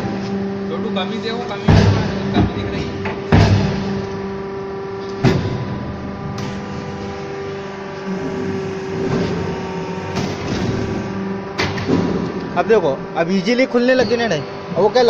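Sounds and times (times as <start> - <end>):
brick press humming: 0.0 - 15.0.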